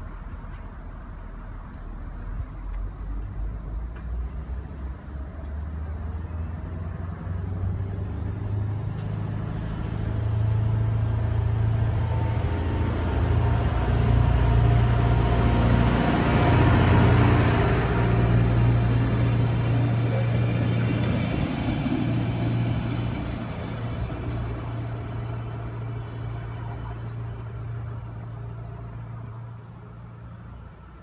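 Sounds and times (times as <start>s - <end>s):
diesel train engine hum: 0.0s - 31.0s.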